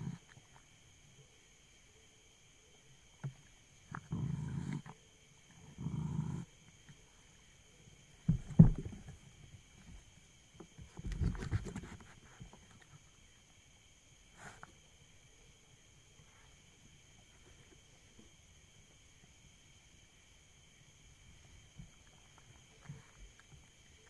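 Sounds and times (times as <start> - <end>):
faint high-pitched hum: 0.0 - 24.0.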